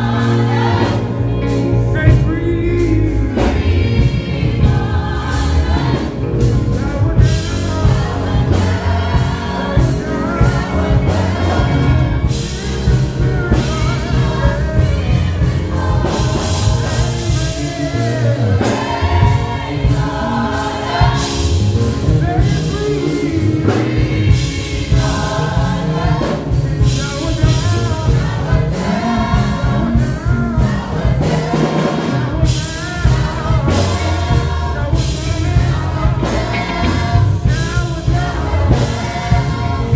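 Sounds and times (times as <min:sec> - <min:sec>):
gospel choir singing: 0:00.0 - 0:39.9
live band with guitar and keyboard: 0:00.0 - 0:39.9
man singing lead vocals: 0:01.8 - 0:04.2, 0:06.3 - 0:21.1, 0:22.0 - 0:39.9.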